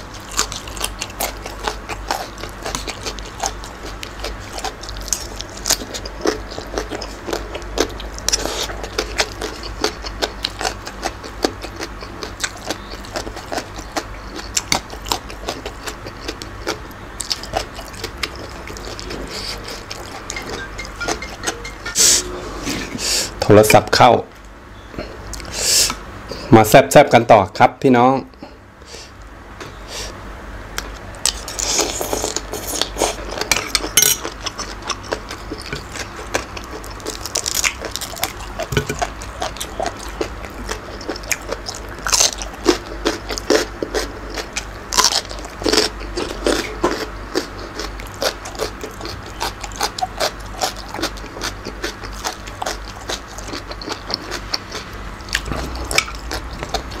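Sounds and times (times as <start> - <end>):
person crunching raw food: 0.0 - 20.4, 30.9 - 57.0.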